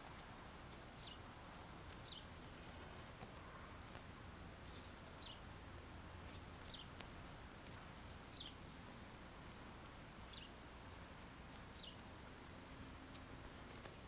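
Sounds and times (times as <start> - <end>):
tape hiss and hum: 0.0 - 14.0
bird chirping: 0.6 - 3.7, 4.5 - 14.0.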